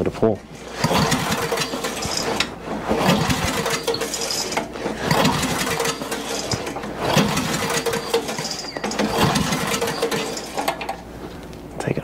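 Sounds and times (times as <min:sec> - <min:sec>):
engine being pull-started: 0:00.6 - 0:11.1.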